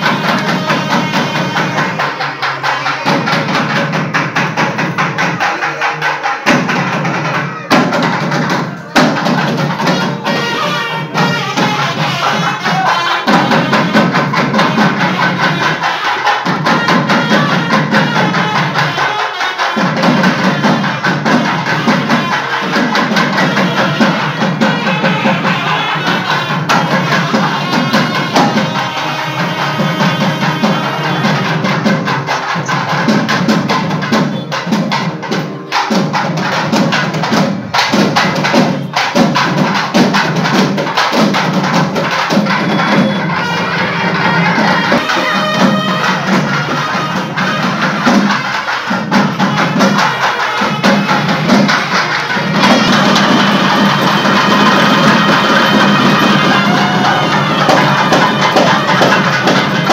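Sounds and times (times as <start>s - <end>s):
crowd: 0.0s - 59.9s
drums beaten in fast rhythm: 0.0s - 59.9s.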